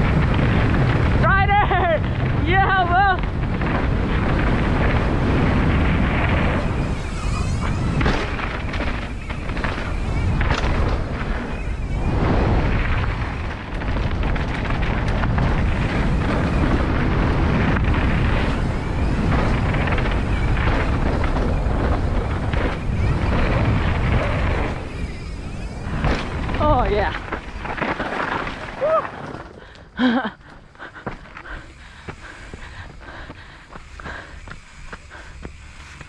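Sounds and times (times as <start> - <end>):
tyres hissing on dirt trail: 0.0 - 36.0
wind buffeting microphone: 0.0 - 36.0.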